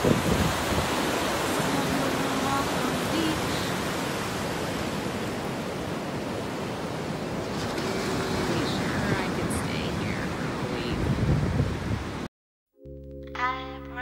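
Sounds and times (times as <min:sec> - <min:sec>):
ocean surf breaking: 0:00.0 - 0:12.3.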